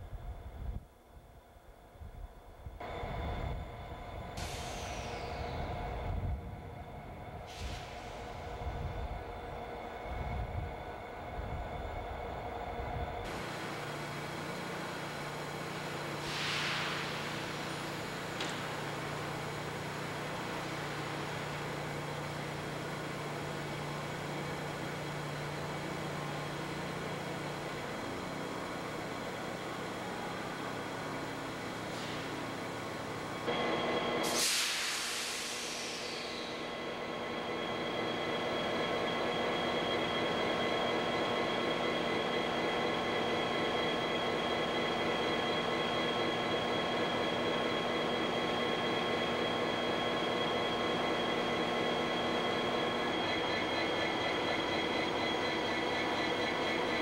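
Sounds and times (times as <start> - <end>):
machinery humming: 2.8 - 57.0.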